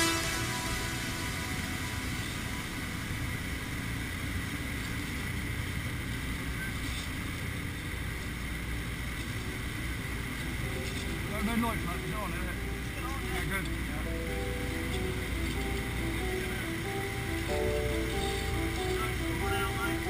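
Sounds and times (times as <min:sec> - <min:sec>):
aircraft engines droning: 0:00.0 - 0:20.0.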